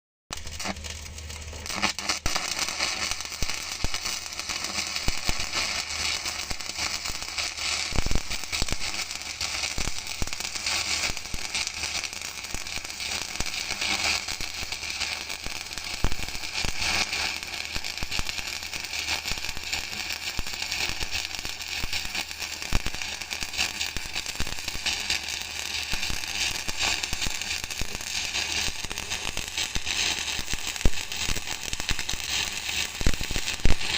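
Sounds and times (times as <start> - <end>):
welding arc crackling: 0.3 - 33.9
welding arc pops: 0.3 - 33.9.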